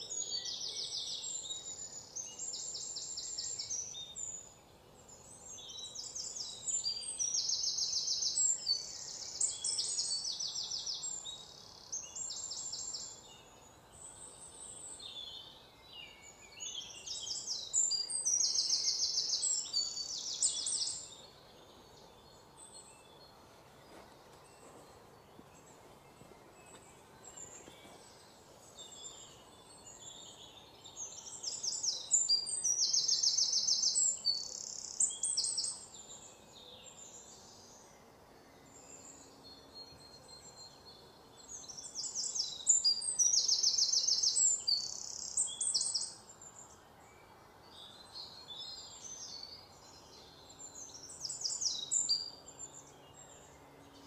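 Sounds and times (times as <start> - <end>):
faint steady hiss: 0.0 - 54.0
songbird singing: 0.0 - 54.0.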